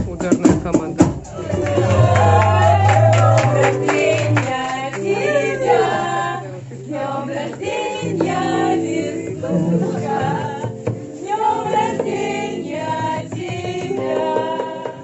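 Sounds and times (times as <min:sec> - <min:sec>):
held bass notes: 0:00.9 - 0:14.8
voices singing: 0:01.3 - 0:15.0.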